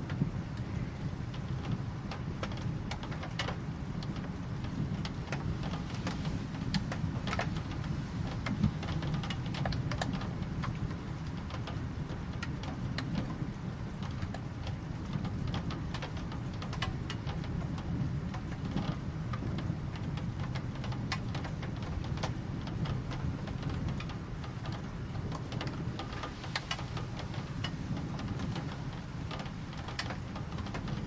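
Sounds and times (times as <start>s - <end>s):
drops ticking on a surface: 0.0s - 31.0s
rain falling: 0.0s - 31.0s.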